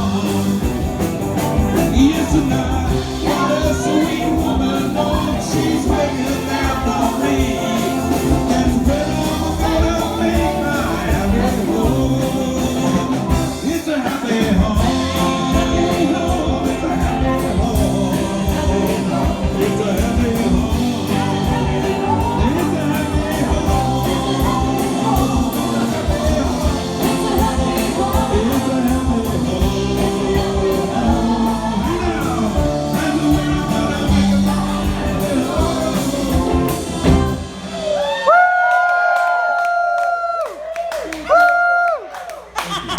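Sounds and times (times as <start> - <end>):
person singing: 0.0 - 40.4
live rock and roll band: 0.0 - 42.9.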